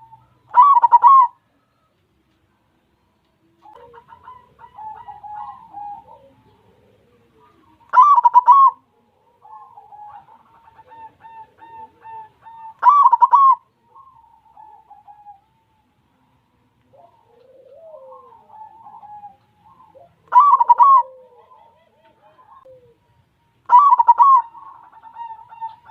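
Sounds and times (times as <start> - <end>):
dove cooing: 0.0 - 2.0, 3.4 - 25.9.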